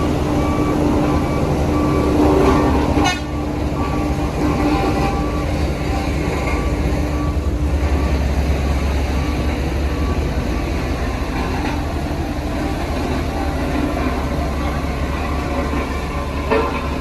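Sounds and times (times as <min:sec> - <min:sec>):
diesel machinery engine rumble: 0:00.0 - 0:17.0.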